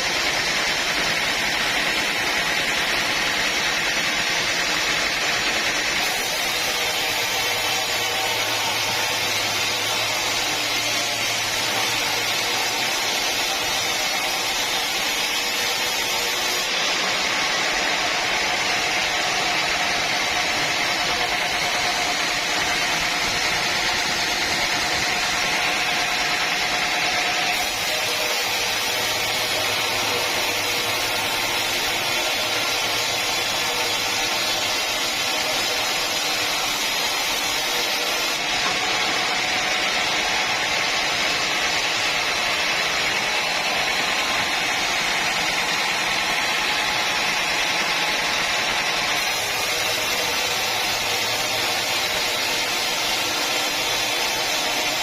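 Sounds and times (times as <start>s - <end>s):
saw cutting through log: 0.0s - 55.0s.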